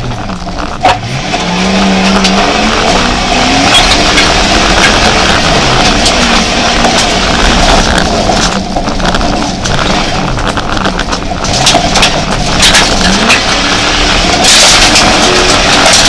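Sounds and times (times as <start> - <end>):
car engine revving: 0.0 - 16.0
rush of noise: 0.0 - 16.0
stones knocking car body: 2.0 - 16.0.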